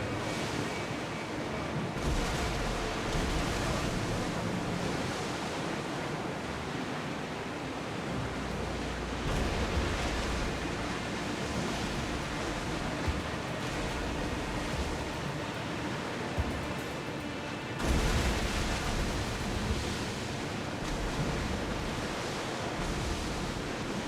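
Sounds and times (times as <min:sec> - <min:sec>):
sea waves: 0:00.0 - 0:24.0
wind: 0:00.0 - 0:24.0.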